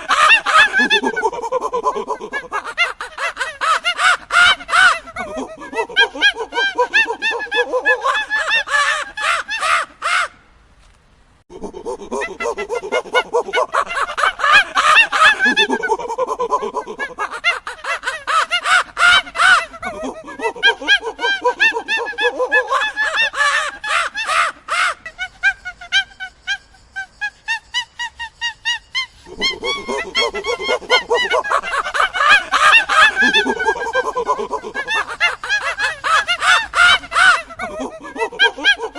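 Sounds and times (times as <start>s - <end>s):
monkeys calling: 0.0s - 10.3s, 11.5s - 38.9s.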